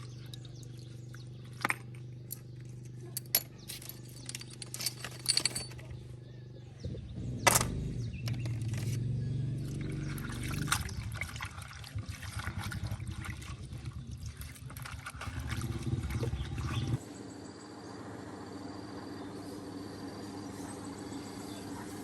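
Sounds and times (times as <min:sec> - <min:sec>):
small engine running unevenly: 0:00.0 - 0:22.0.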